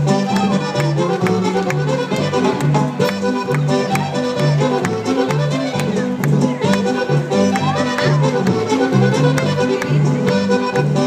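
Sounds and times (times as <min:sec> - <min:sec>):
bouncing bass: 0:00.0 - 0:11.0
fiddle folk dance music: 0:00.0 - 0:11.0.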